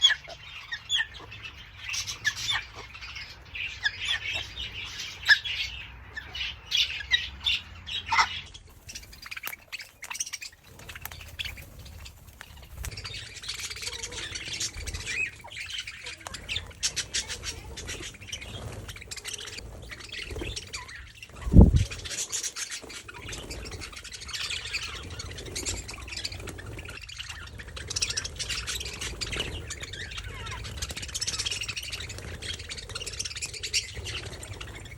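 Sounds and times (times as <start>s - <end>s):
cockatoos squawking: 0.0s - 34.9s.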